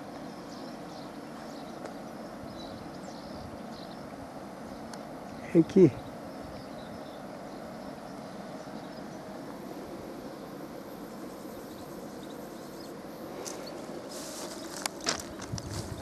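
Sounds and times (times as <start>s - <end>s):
refrigeration machines humming: 0.0s - 16.0s.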